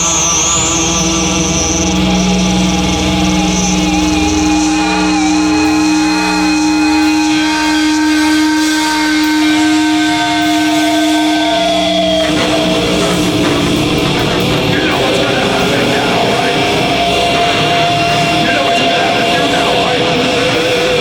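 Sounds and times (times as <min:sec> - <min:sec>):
heavy metal band playing: 0:00.0 - 0:21.0
ringing guitar chord: 0:00.0 - 0:21.0.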